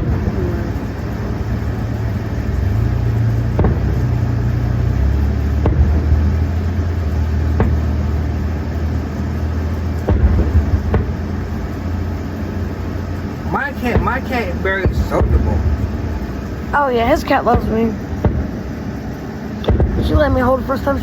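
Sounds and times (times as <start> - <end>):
low engine-like rumble: 0.0 - 21.0.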